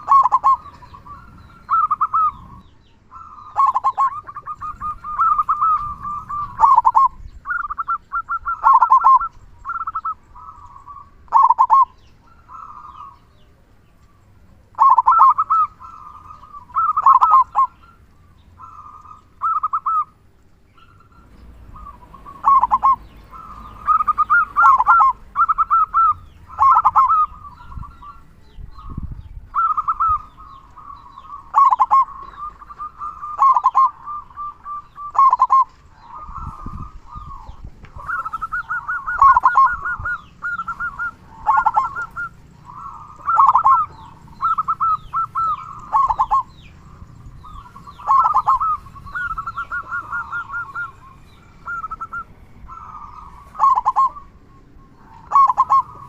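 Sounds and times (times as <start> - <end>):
dove cooing: 0.0 - 13.6, 14.7 - 56.0.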